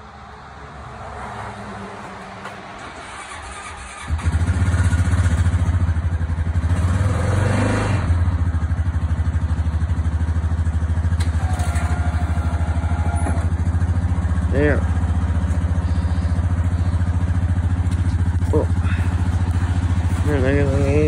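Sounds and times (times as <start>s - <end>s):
atv engine starting and idling: 3.0s - 21.0s.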